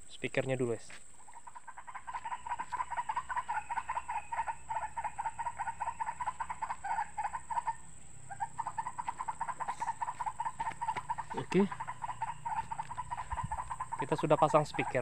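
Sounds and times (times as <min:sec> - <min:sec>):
bird call through small speaker: 0:01.3 - 0:15.0.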